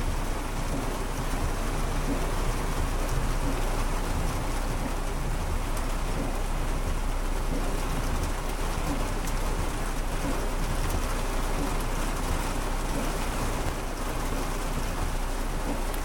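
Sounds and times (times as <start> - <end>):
heavy rain on car roof: 0.0 - 16.0.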